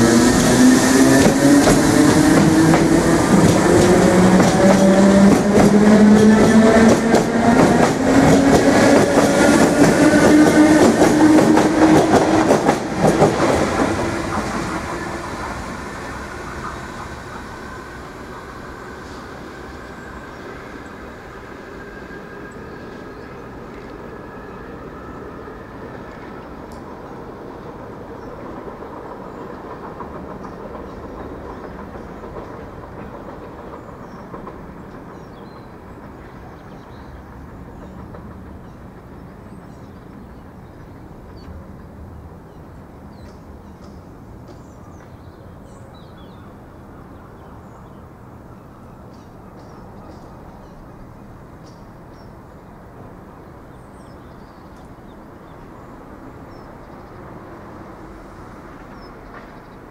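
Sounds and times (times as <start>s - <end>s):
electric train running rumble: 0.0s - 59.9s.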